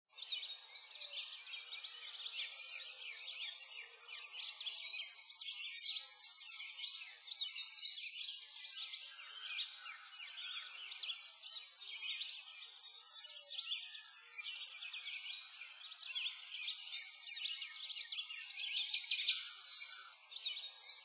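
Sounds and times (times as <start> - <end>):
small birds chirping and twittering: 0.1 - 21.0.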